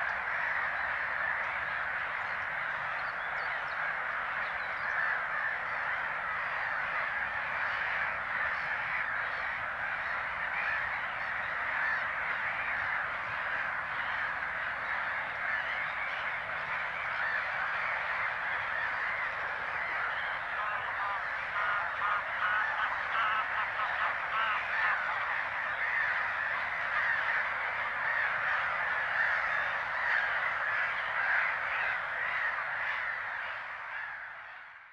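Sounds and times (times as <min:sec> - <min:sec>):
chorus of gulls calling: 0:00.0 - 0:34.9
quick repeated gull calls: 0:00.0 - 0:34.9.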